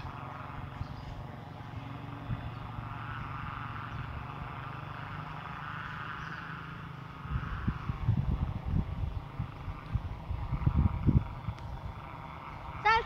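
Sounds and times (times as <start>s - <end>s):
kite hummer droning: 0.0s - 13.0s.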